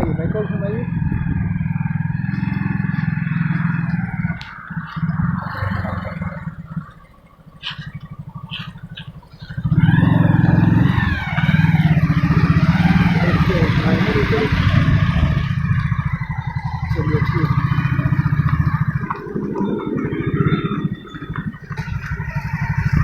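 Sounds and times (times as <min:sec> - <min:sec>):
engine rapid firing beat: 0:00.0 - 0:23.0
higher wavering whine: 0:00.0 - 0:23.0.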